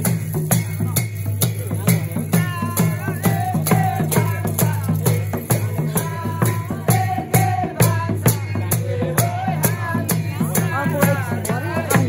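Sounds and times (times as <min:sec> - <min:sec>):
drums beating dance rhythm: 0:00.0 - 0:12.0.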